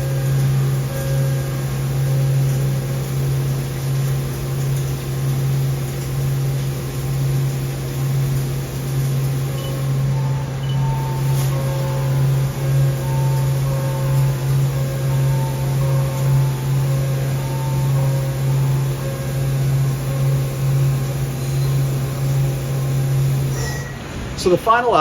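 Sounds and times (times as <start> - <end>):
higher machine tones: 0.0 - 25.0
machine low hum: 0.0 - 25.0.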